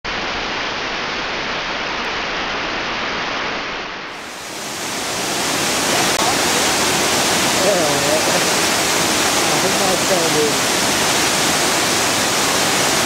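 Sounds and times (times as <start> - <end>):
waterfall roaring: 0.1 - 13.0.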